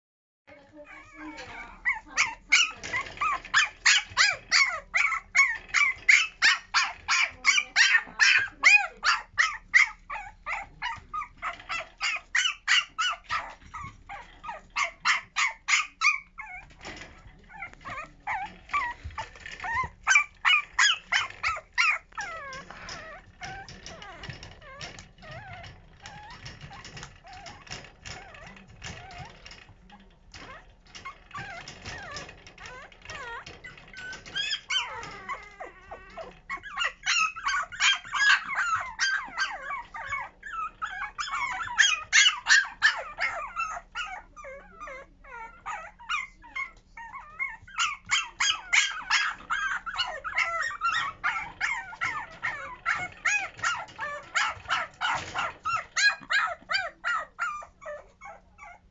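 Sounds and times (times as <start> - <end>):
puppy whining and yipping: 0.7 - 58.9.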